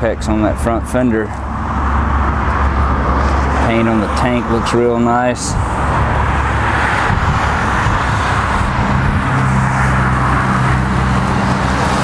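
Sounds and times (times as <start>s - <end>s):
low vehicle engine hum: 0.0s - 12.0s
road traffic noise: 0.0s - 12.0s.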